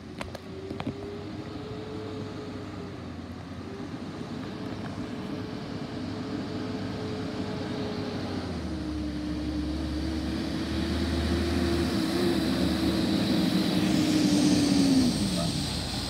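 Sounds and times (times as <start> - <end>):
garbage truck engine: 0.0 - 16.0.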